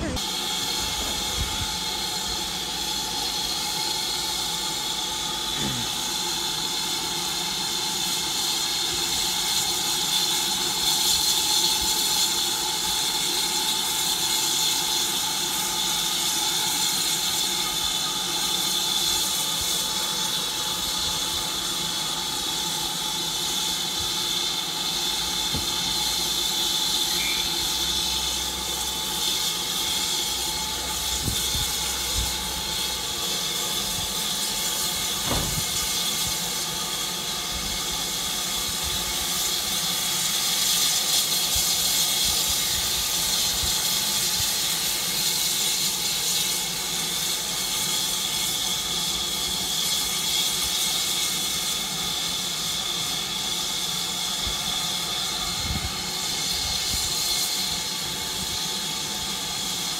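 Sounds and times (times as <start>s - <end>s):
steam hissing: 0.0s - 59.9s.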